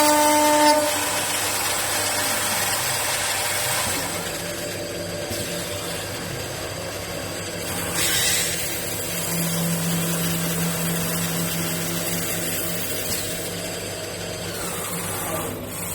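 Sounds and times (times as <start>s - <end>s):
lathe motor hum: 0.0s - 15.9s.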